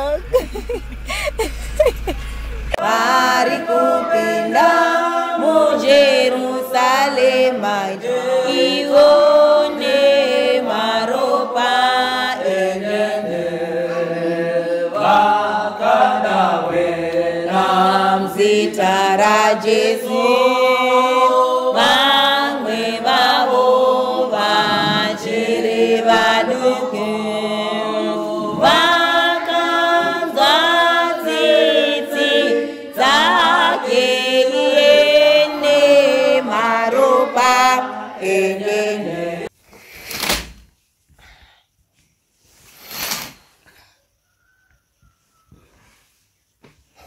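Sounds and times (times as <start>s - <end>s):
voices singing a hymn: 0.0s - 39.5s.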